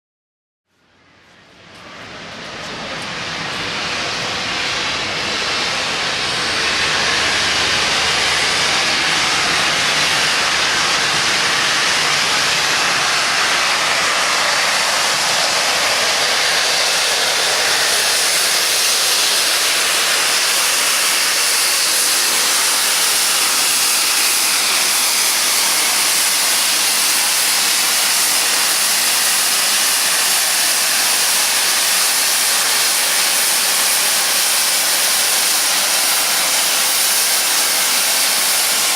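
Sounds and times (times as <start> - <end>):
steam hissing from locomotive: 1.8 - 38.9.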